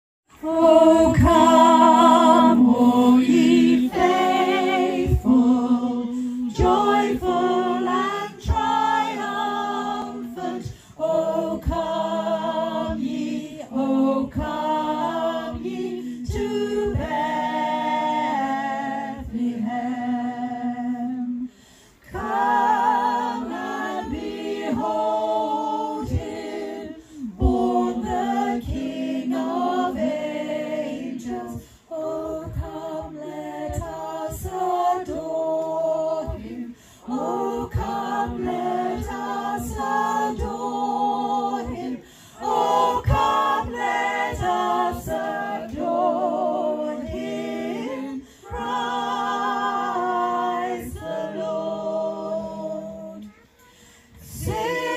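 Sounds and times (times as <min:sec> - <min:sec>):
group singing a cappella carol: 0:00.3 - 0:54.9.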